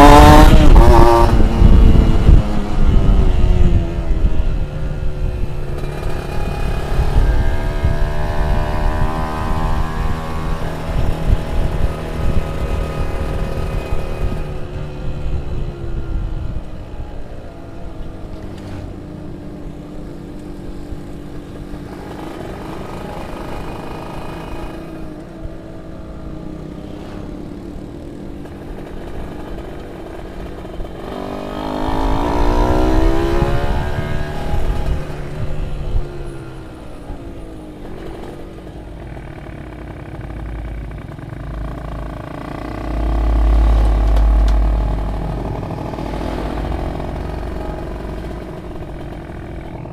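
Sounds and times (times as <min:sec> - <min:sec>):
two-stroke motorcycle engine revving: 0:00.0 - 0:15.7, 0:20.1 - 0:25.9, 0:27.4 - 0:49.9.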